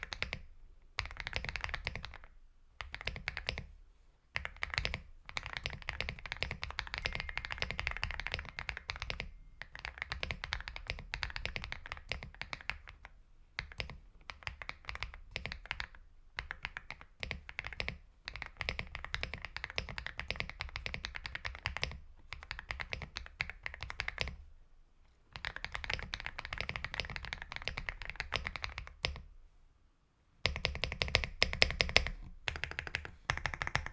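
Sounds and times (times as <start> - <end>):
mechanical keyboard typing: 0.0 - 0.4, 1.0 - 3.7, 4.4 - 24.4, 25.3 - 29.2, 30.4 - 33.9.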